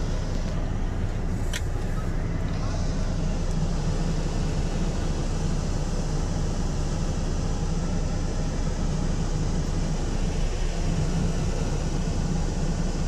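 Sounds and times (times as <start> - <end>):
air conditioning blower: 0.0 - 13.0
diesel engine idling: 0.0 - 13.0.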